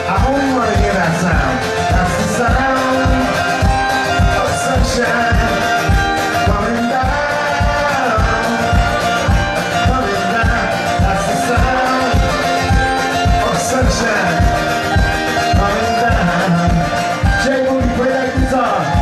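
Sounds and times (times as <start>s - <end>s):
acoustic guitars strummed: 0.0s - 19.0s
man singing: 0.0s - 19.0s.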